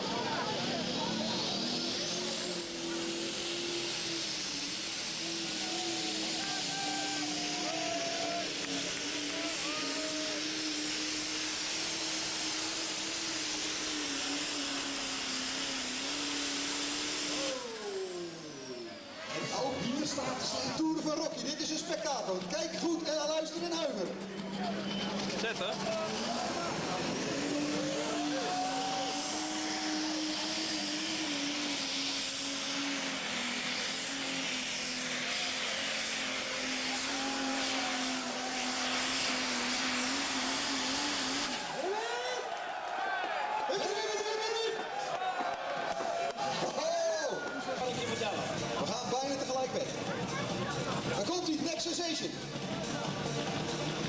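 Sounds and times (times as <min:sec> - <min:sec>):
tractor engine at full throttle: 0:00.0 - 0:42.6, 0:46.3 - 0:54.0
engine whine: 0:00.0 - 0:42.7, 0:43.3 - 0:54.0.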